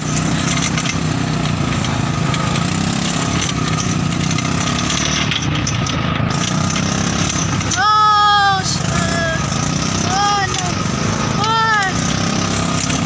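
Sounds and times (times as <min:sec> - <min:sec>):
off-road vehicle engines running: 0:00.0 - 0:13.0.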